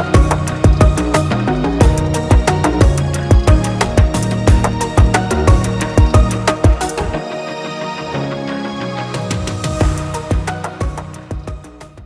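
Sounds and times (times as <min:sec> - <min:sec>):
music with drum beat and synth: 0:00.0 - 0:07.2, 0:09.2 - 0:12.0.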